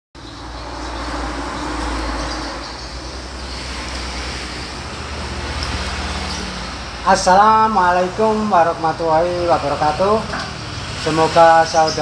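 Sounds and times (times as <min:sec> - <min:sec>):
low rumbling background noise: 0:00.2 - 0:12.0.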